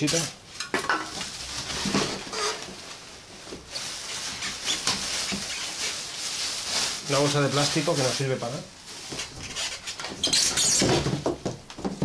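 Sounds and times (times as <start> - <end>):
plastic packaging rustling: 0.0 - 12.0.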